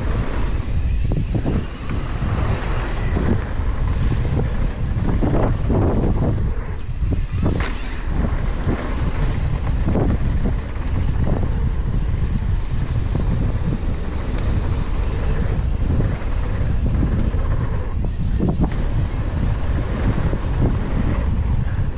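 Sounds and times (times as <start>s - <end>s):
bike knocks and rattles: 0.0s - 21.9s
tyres rumbling on dirt: 0.0s - 21.9s
wind buffeting microphone: 0.0s - 21.9s.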